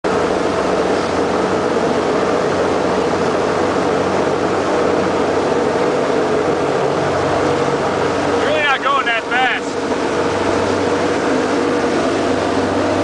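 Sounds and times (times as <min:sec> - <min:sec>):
motorboat engine running: 0:00.0 - 0:13.0
wind: 0:00.0 - 0:13.0
water rushing: 0:00.1 - 0:13.0.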